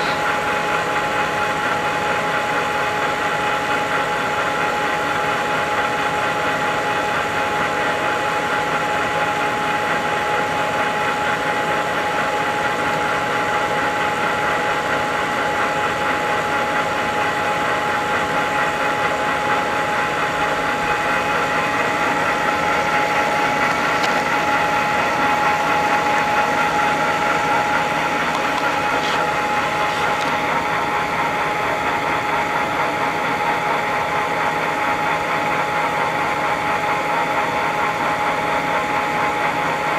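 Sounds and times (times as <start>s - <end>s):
drill press mechanical whine: 0.0s - 39.9s.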